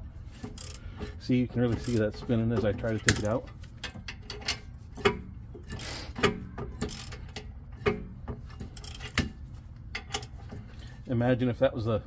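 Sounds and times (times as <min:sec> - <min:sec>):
metal scraping rub: 0:00.0 - 0:11.2
ratchet wrench clicking: 0:00.3 - 0:11.0.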